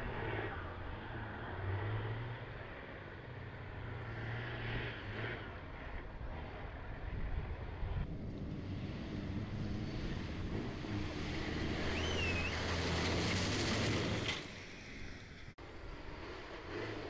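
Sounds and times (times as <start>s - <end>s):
truck diesel engines running hard: 0.0s - 17.0s.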